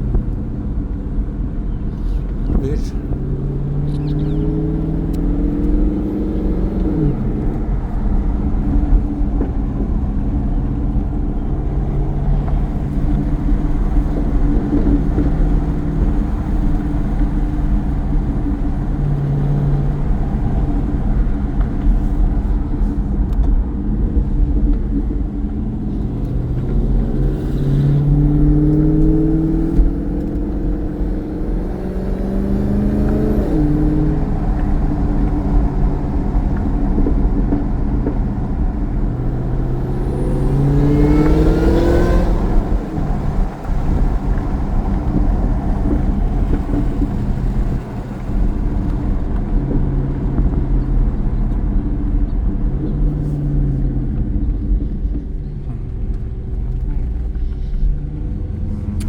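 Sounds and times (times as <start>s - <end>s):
car engine deep rumble: 0.0s - 59.0s
exhaust crack: 0.0s - 59.0s.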